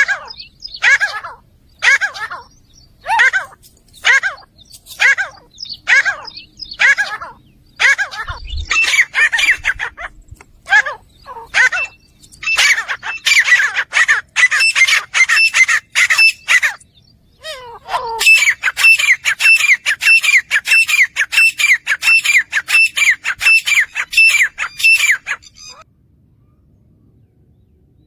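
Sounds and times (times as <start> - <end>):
francolin calling: 0.0 - 25.8.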